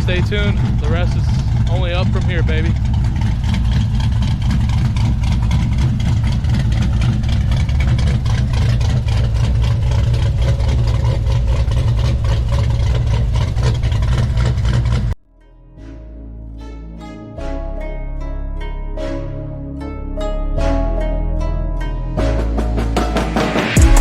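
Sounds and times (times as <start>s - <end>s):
truck engine idling: 0.0s - 15.2s, 15.8s - 24.0s.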